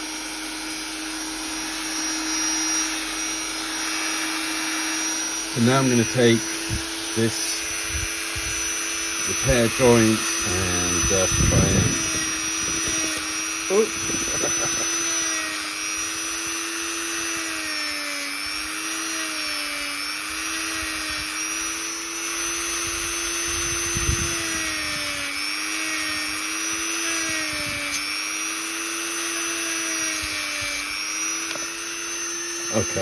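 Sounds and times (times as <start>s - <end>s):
rotary tool grinding whine: 0.0s - 33.0s.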